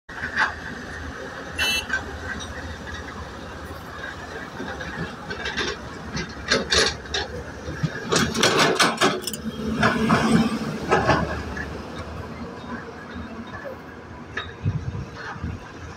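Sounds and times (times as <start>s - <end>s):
train wheels rumbling: 0.1s - 15.9s.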